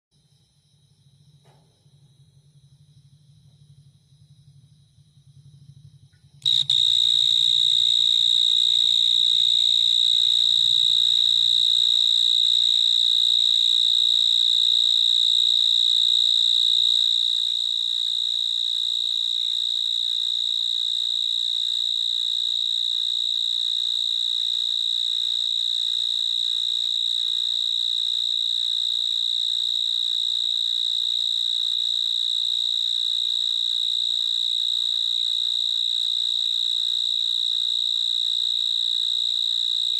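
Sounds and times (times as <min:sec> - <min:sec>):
cricket trilling: 0:00.2 - 0:39.9.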